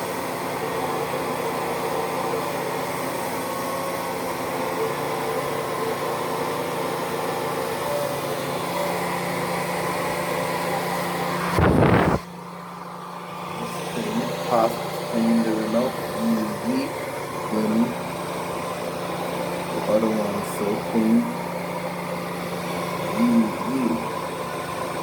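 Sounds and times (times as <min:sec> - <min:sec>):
hair dryer blowing: 0:00.0 - 0:25.0.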